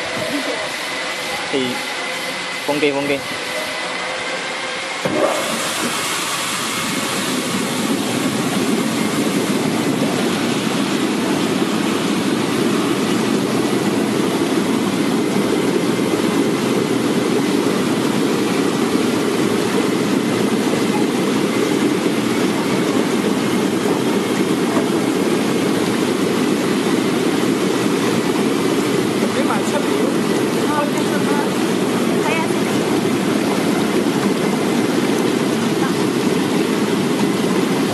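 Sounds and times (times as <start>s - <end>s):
washing machine bubbling churn: 0.0s - 37.9s.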